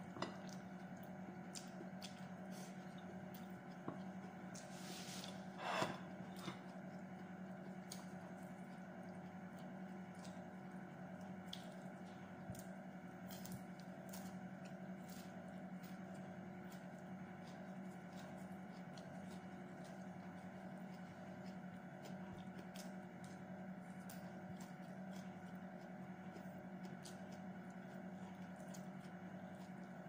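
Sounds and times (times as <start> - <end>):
low steady hum: 0.0 - 30.0
wet squishy chewing: 0.2 - 30.0.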